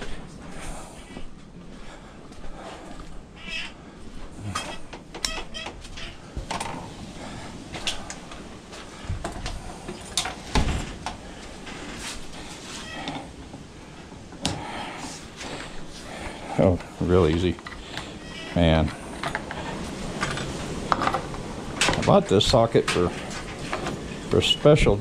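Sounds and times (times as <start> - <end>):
footsteps: 0.0 - 25.0.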